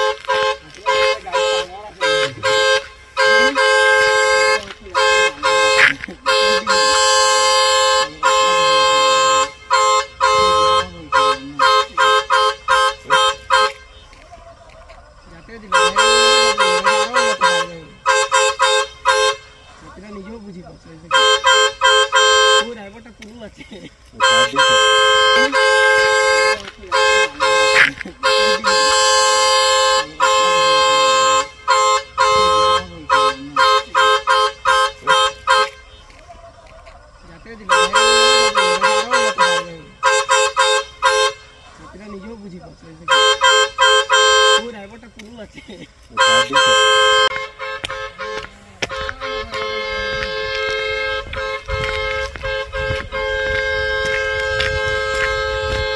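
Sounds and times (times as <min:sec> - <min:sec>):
vehicle horn honking: 0:00.0 - 0:20.4, 0:21.0 - 0:55.9.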